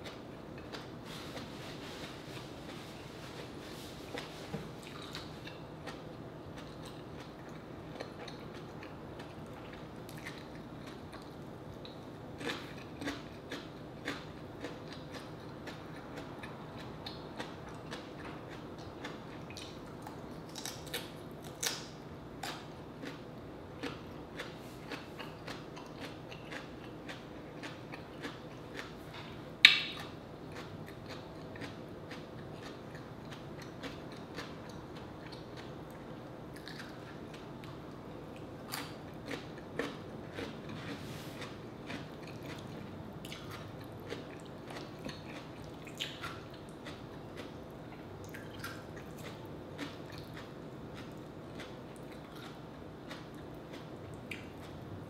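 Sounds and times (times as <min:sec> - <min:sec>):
person chewing and crunching radish: 0:00.0 - 0:55.0.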